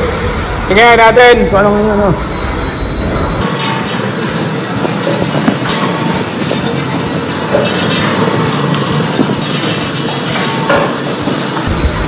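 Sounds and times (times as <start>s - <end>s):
milking machinery running: 0.0s - 12.0s.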